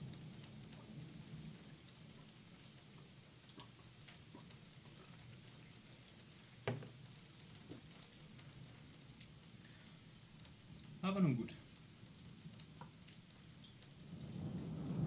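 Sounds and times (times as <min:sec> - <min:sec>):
raindrops ticking: 0:00.0 - 0:15.0
steady rain hiss: 0:00.0 - 0:15.0.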